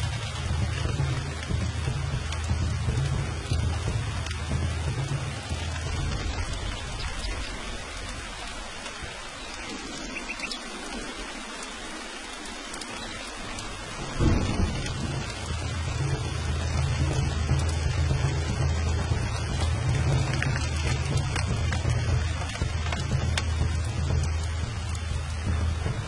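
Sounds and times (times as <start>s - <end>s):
low thunder rumble: 0.0s - 26.0s
steady rain falling: 0.0s - 26.0s
thunder clap: 0.0s - 26.0s.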